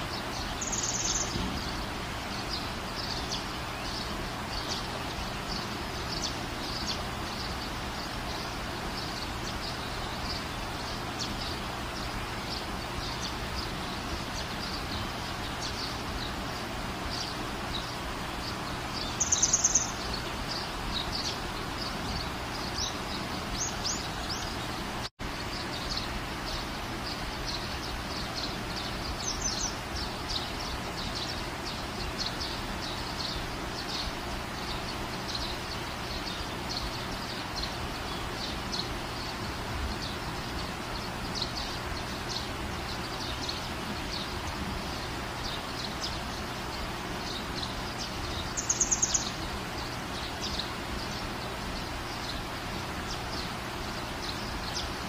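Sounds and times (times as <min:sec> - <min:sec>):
outdoor background noise: 0:00.0 - 0:55.0
small birds chirping: 0:00.0 - 0:55.0.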